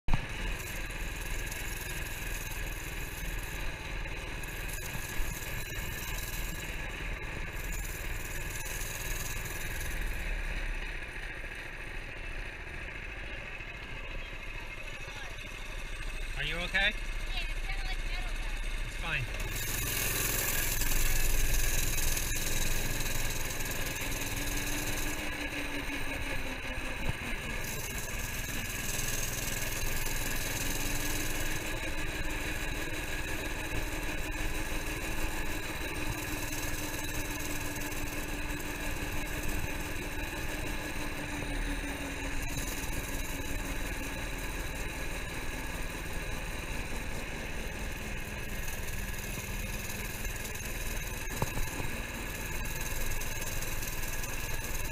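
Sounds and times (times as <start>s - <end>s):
small engine running: 0.1s - 54.9s.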